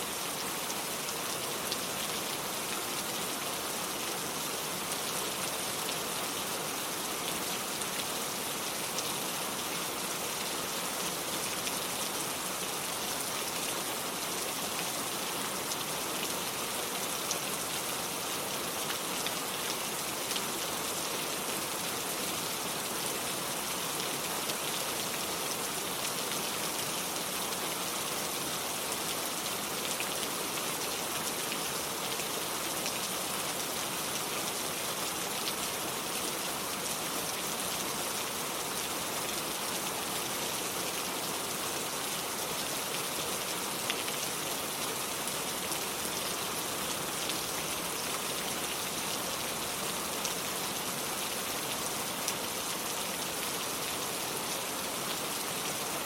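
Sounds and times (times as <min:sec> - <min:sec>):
rain on cobblestones: 0:00.1 - 0:56.0.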